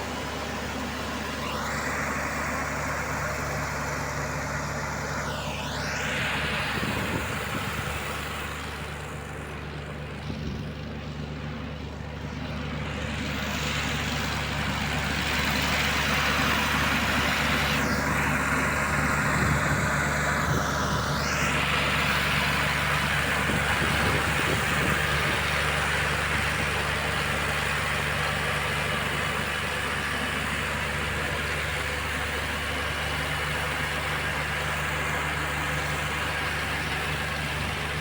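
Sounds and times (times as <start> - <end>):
diesel tractor engines: 0.0 - 38.0.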